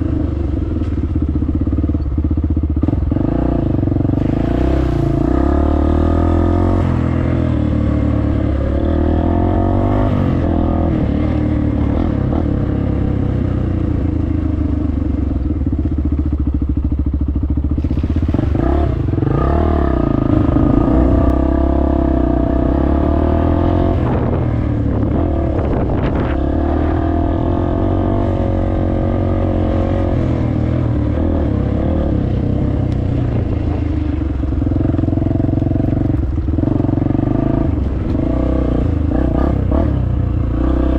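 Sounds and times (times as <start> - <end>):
dirt bike engine revving: 2.8 - 14.5, 17.7 - 40.9.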